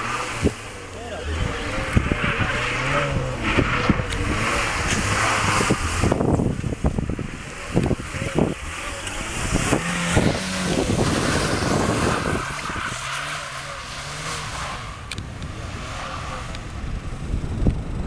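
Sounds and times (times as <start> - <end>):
car engine running: 0.0 - 18.0
wind noise: 0.0 - 18.0.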